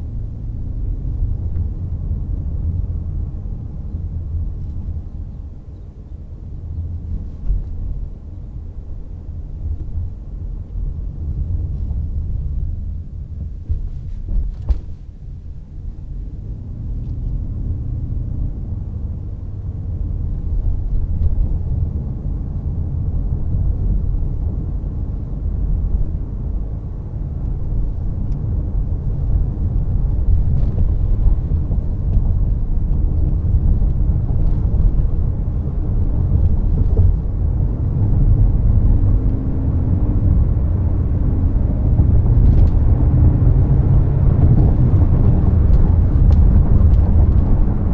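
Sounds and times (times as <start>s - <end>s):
car road and drivetrain rumble: 0.0s - 47.9s.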